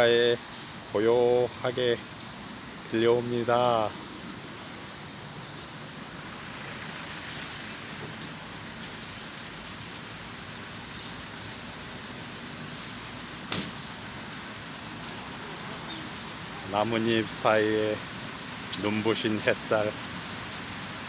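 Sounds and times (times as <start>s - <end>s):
insects chirping in a trill: 0.0s - 21.0s.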